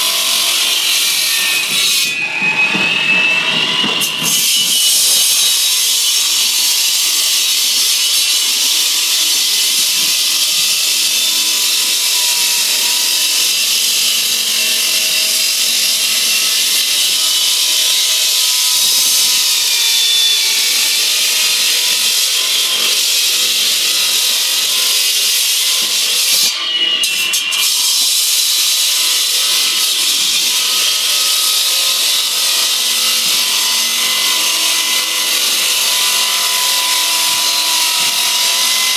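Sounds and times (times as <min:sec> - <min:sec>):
saw cutting concrete whine: 0:00.0 - 0:38.9.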